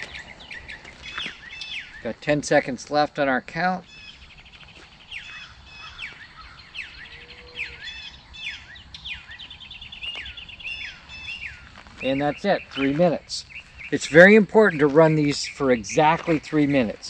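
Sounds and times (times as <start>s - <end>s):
faint birds: 0.0s - 17.0s
mockingbird singing: 0.0s - 17.0s.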